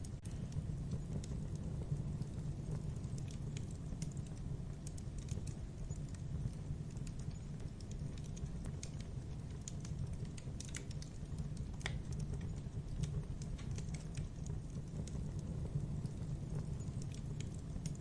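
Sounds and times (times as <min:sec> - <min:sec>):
burning logs crackling and popping: 0:00.0 - 0:18.0
low fire rumble: 0:00.0 - 0:18.0.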